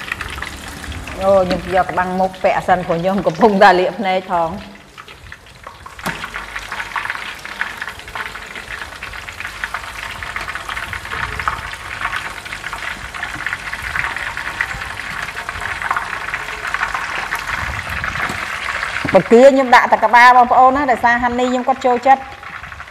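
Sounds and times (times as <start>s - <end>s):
food sizzling in hot oil: 0.0s - 22.9s.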